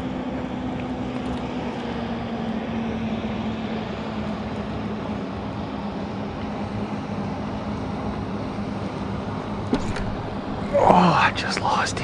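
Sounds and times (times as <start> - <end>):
distant engine droning: 0.0 - 12.0.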